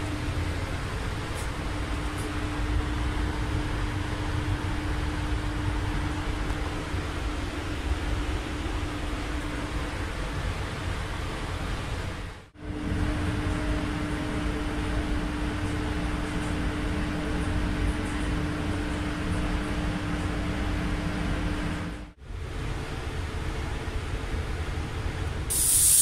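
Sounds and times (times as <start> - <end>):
ventilation fans rushing air: 0.0 - 26.0.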